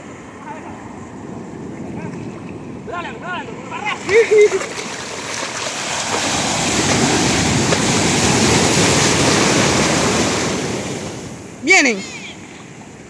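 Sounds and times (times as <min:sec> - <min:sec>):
ocean surf rushing in: 0:00.0 - 0:13.0.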